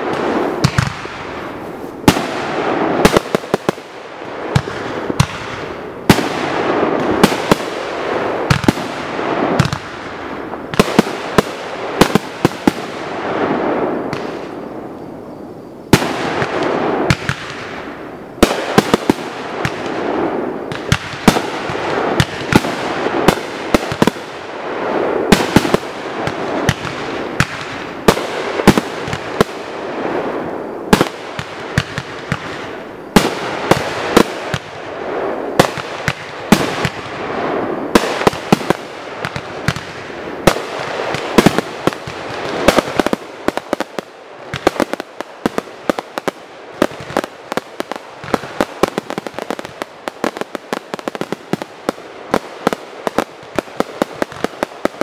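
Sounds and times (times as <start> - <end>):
fireworks cracks and bursts: 0.0 - 15.0, 15.8 - 55.0
crackling hiss of fireworks: 0.0 - 55.0.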